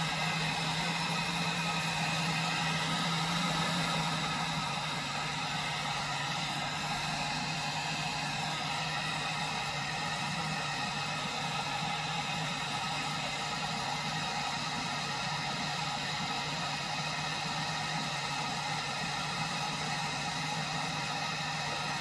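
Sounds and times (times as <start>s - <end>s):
gas stove burner running: 0.0s - 22.0s.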